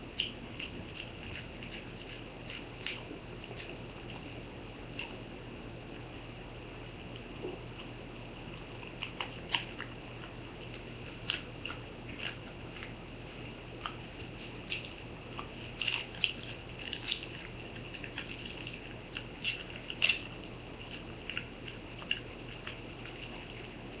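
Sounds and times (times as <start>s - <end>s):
dog crunching jerky: 0.0s - 5.4s, 7.0s - 24.0s.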